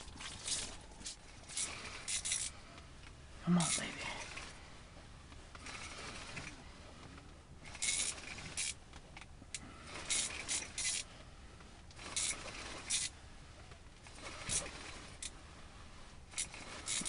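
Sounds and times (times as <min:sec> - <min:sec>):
hissy rustles and scrapes: 0:00.0 - 0:17.0.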